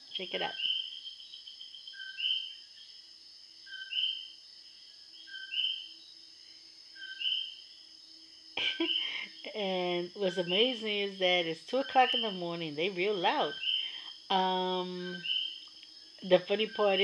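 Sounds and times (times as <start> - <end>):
night insects chorus: 0.0 - 17.0.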